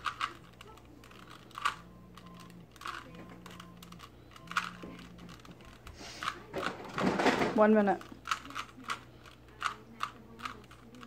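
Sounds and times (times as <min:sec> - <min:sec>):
plastic puzzle cube clicking: 0:00.0 - 0:06.7, 0:08.0 - 0:11.0.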